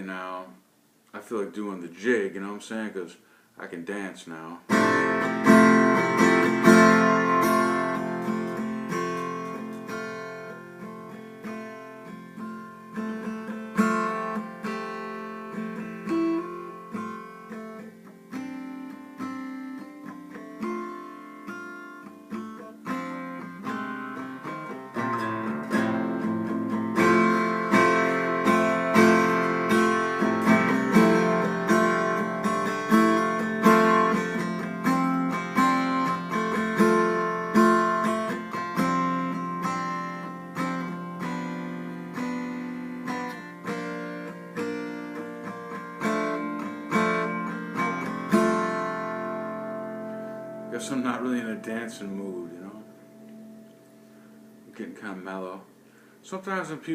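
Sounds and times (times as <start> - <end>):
guitar chords strummed: 4.6 - 56.0.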